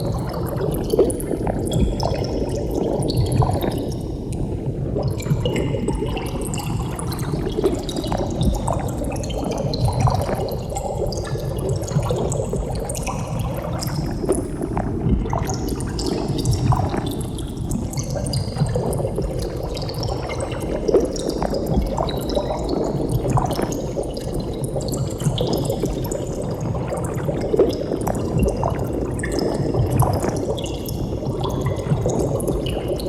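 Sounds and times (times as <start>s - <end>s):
underwater bubbling: 0.0s - 33.0s.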